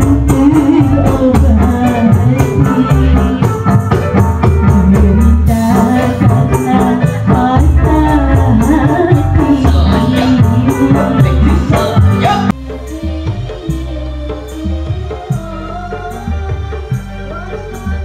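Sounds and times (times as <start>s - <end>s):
hand percussion beat: 0.0s - 18.0s
keyboard and drums: 0.0s - 18.0s
woman singing into microphone: 0.0s - 18.0s.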